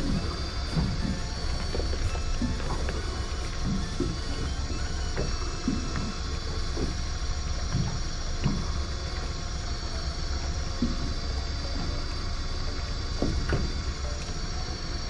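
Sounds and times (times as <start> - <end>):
boat engine hum: 0.0 - 15.0.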